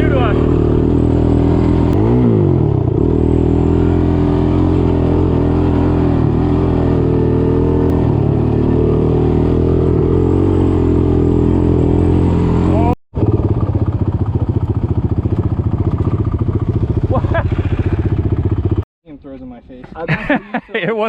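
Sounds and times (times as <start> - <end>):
off-road motorcycle engine running: 0.0 - 18.8.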